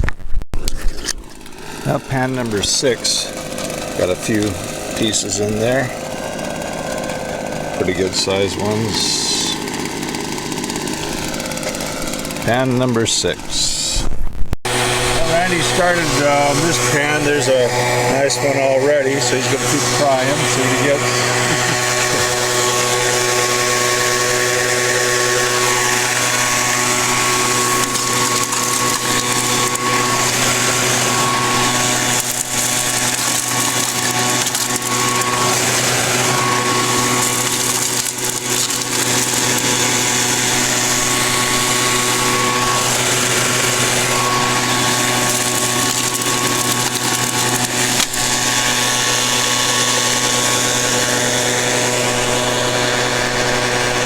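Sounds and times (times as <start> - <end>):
small engine droning: 0.6 - 14.0, 14.7 - 54.0.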